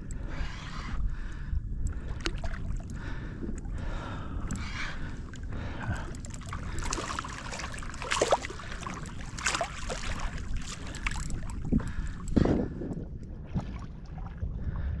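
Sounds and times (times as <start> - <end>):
water splashing around kayak hull: 0.0 - 14.5.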